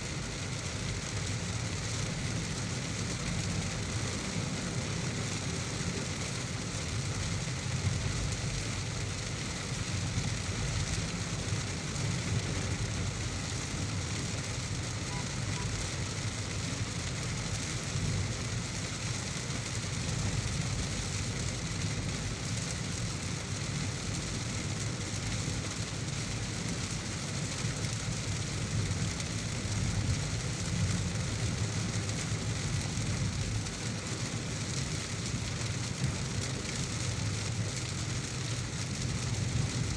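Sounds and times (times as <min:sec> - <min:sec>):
hiss of rain: 0:00.0 - 0:39.9
low road rumble: 0:00.0 - 0:39.9.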